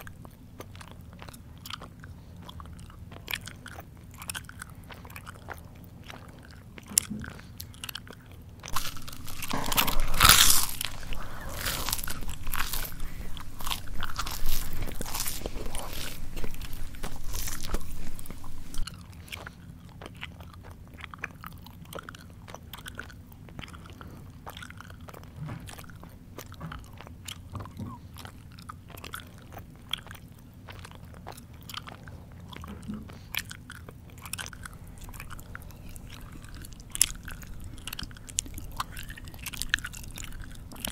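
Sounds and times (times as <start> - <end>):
mouth chewing crunchy food: 0.0 - 40.9.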